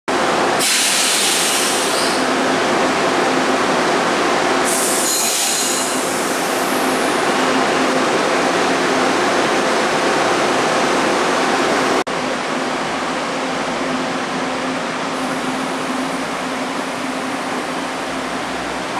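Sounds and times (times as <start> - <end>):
train wheels rumbling on rail: 0.1 - 18.9.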